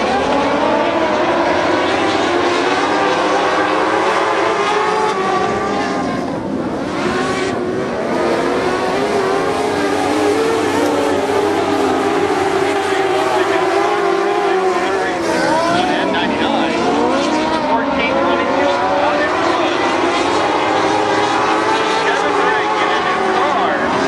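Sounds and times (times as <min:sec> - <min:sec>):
race car engines passing: 0:00.0 - 0:24.0.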